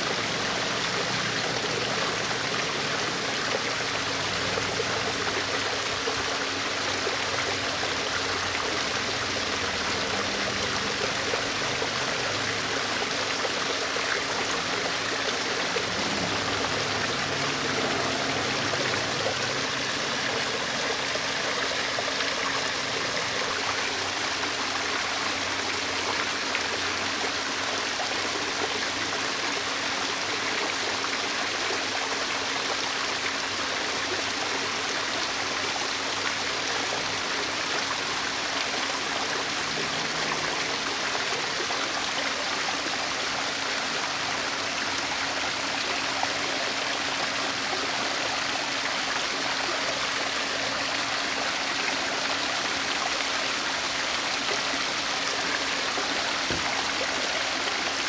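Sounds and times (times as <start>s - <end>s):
water running and splashing: 0.0s - 58.0s.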